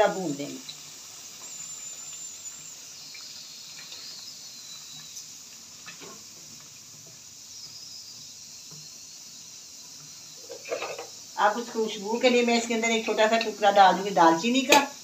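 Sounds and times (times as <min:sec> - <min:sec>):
curry sizzling in a pot: 0:00.0 - 0:15.0.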